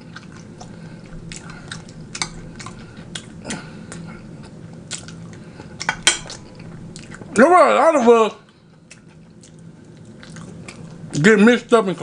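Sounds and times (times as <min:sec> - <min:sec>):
chewing crunches: 0:00.0 - 0:07.3, 0:08.4 - 0:11.2.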